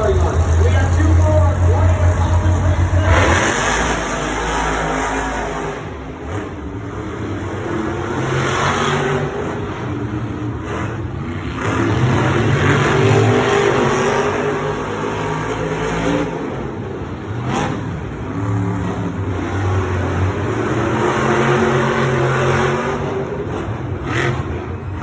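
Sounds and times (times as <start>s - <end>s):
monster truck engines revving: 0.0s - 25.0s.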